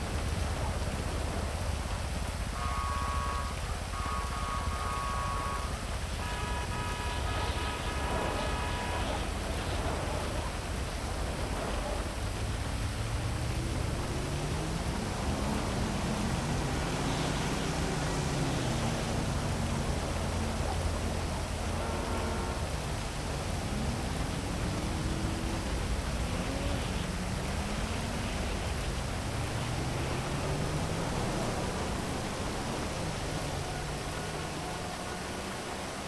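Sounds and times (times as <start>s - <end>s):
city traffic vehicles passing: 0.0s - 36.0s
heavy steady rain: 0.0s - 36.0s.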